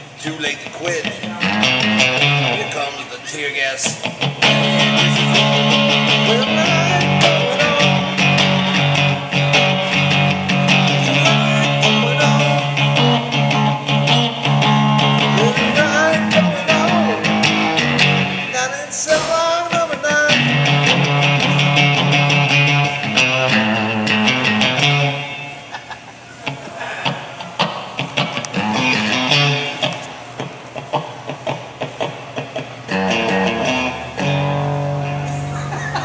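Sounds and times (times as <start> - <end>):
bent lead guitar notes: 0.7 - 36.0
electric guitar low riff: 1.0 - 25.7, 26.4 - 36.0.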